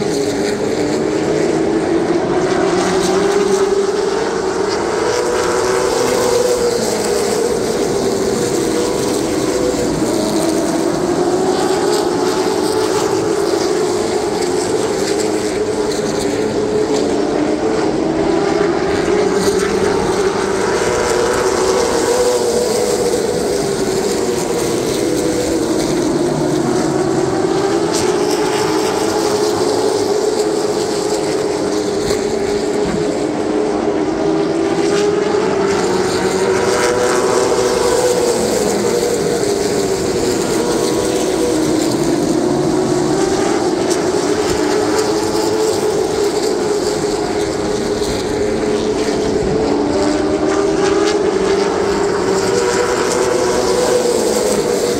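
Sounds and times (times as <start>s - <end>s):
race car engine: 0.0s - 54.9s.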